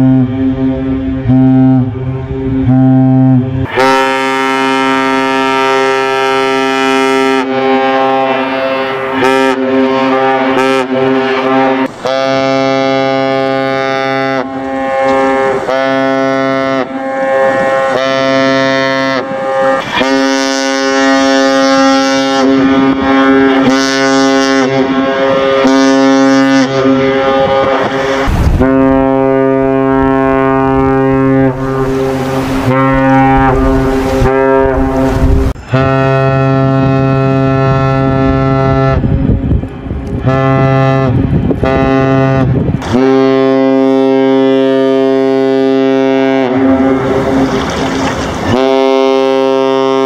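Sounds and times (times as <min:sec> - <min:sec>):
deep ship horn blasts: 0:00.0 - 0:50.0.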